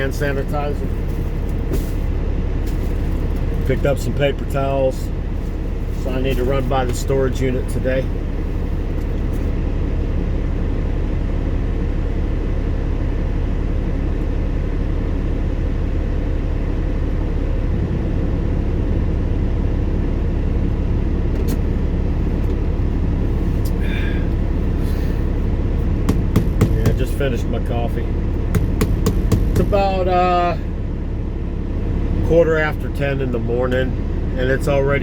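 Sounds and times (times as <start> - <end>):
semi truck idling: 0.0 - 35.0.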